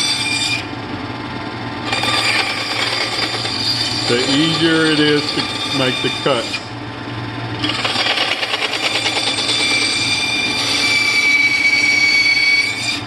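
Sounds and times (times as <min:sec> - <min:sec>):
bandsaw blade whining in wood: 0:00.0 - 0:00.7, 0:01.8 - 0:06.7, 0:07.6 - 0:13.0.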